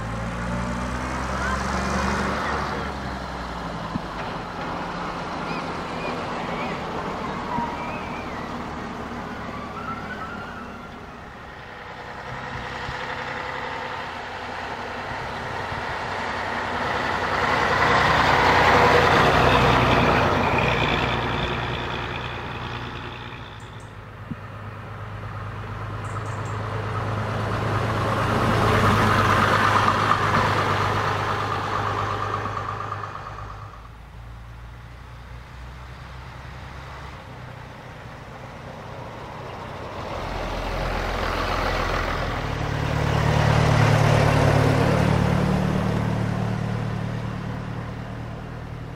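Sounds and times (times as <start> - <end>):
buses passing: 0.0 - 48.9
low engine hum: 0.0 - 48.9.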